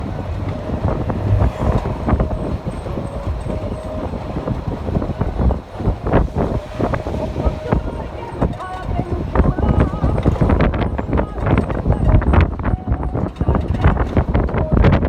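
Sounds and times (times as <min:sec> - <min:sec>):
bus rumbling on rough road: 0:00.0 - 0:15.0.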